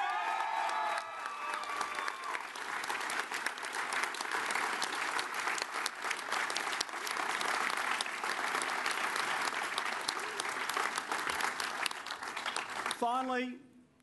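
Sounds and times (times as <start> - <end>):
crowd applauding: 0.0 - 13.3.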